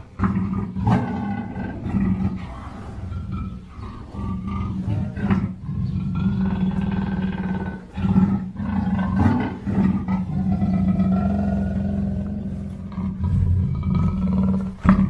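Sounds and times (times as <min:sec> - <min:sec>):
panther roaring growl: 0:00.0 - 0:15.0.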